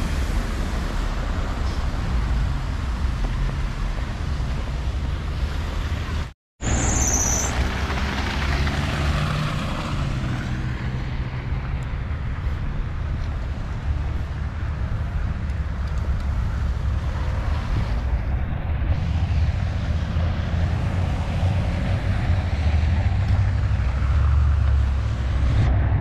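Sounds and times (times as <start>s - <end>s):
car engines running: 0.0s - 26.0s
low traffic rumble: 0.0s - 26.0s.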